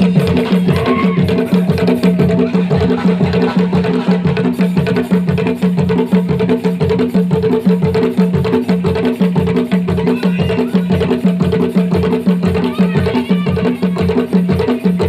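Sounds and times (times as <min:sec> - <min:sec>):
dance music with drums: 0:00.0 - 0:15.0.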